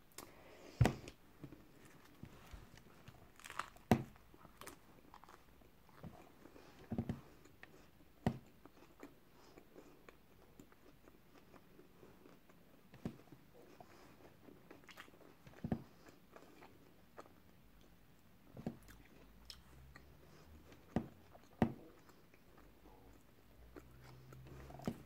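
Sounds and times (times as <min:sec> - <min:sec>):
person chewing bread: 0:00.1 - 0:25.0.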